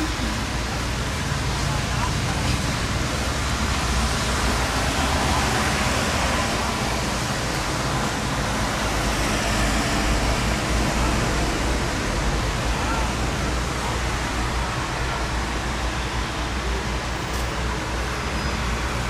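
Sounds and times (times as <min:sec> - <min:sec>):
cars on a wet road: 0:00.0 - 0:19.0.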